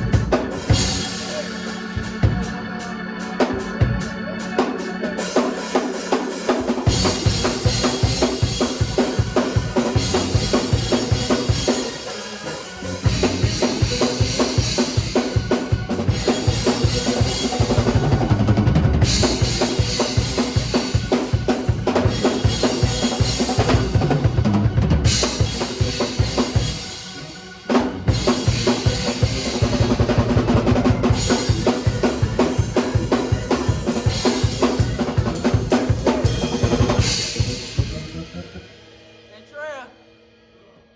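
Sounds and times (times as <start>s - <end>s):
drum kit fast groove: 0.0s - 39.9s.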